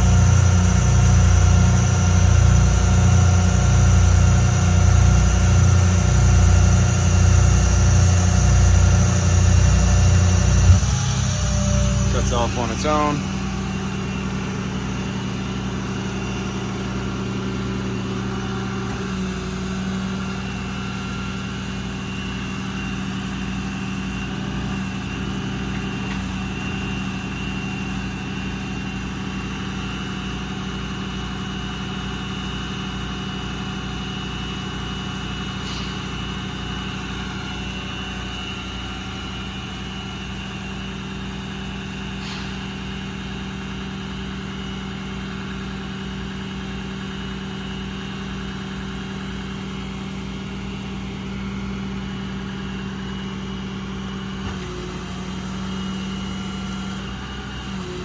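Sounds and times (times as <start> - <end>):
diesel engine idling: 0.0 - 31.4, 33.6 - 57.8.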